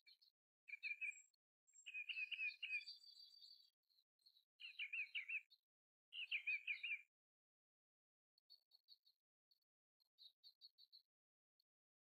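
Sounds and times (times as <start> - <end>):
faint bird chirps: 0.0 - 7.1, 8.4 - 11.7.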